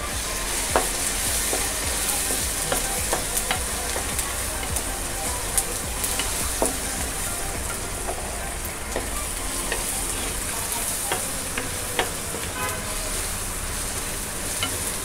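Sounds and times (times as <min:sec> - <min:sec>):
onion and tomato sizzling in oil: 0:00.0 - 0:15.0
spoon stirring against pan: 0:00.0 - 0:15.0.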